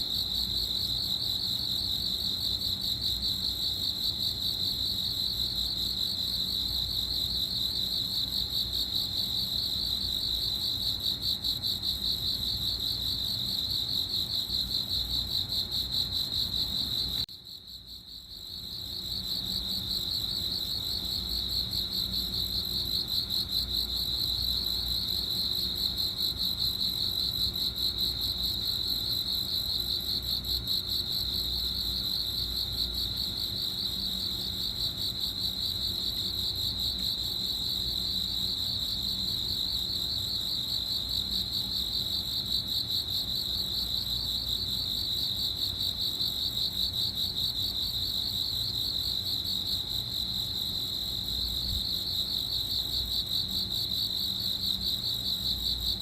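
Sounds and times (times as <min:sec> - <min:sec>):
cricket chirping trill: 0:00.0 - 0:56.0.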